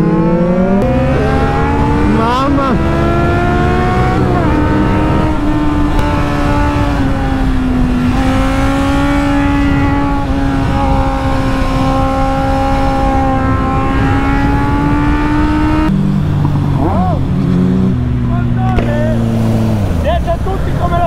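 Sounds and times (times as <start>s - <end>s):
wind rush on microphone: 0.0s - 18.3s
motorcycle engine at speed: 0.0s - 20.7s.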